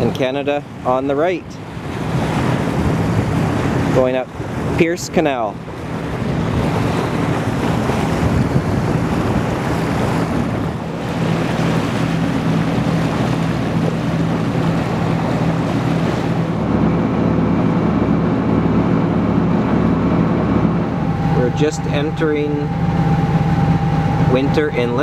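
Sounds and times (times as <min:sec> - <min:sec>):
boat engine droning: 0:00.0 - 0:25.0
water rushing past hull: 0:00.0 - 0:25.0
wind buffeting microphone: 0:00.0 - 0:25.0.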